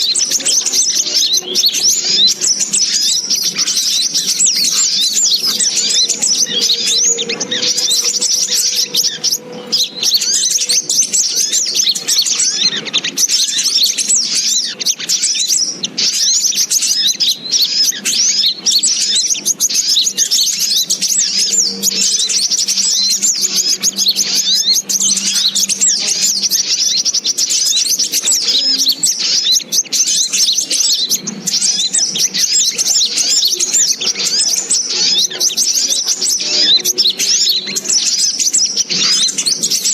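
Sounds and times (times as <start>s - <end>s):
rapid high-pitched bird chirps: 0.0s - 39.9s.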